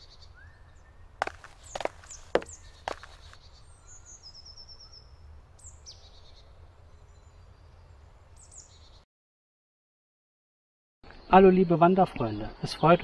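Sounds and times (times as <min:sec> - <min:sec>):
forest birdsong: 0:00.0 - 0:09.0, 0:11.1 - 0:13.0.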